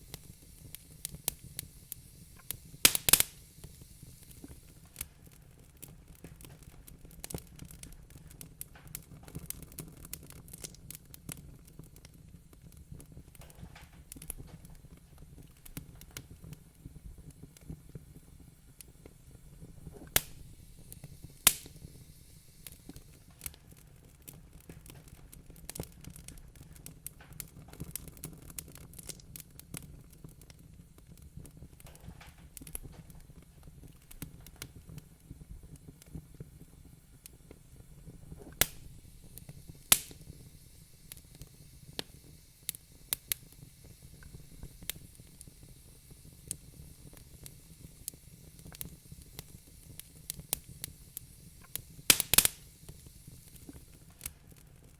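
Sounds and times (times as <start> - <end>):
loud fire pops: 0.0 - 54.9
wood fire crackling: 0.0 - 54.9.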